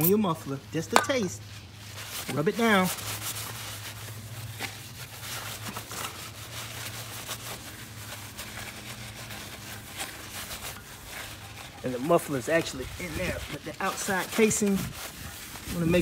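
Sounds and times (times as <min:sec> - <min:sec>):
paper towel rubbing on metal: 0:00.0 - 0:16.0.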